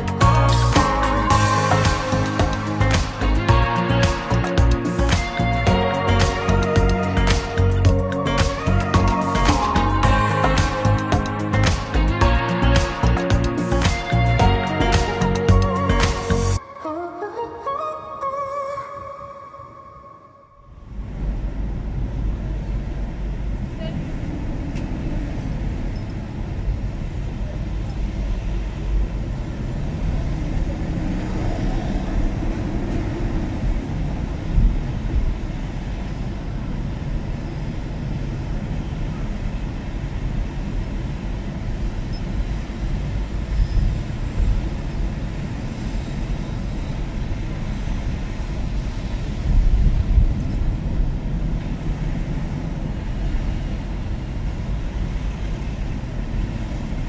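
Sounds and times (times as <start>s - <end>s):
car engine and tyre rumble: 0.0s - 16.6s, 20.8s - 57.0s.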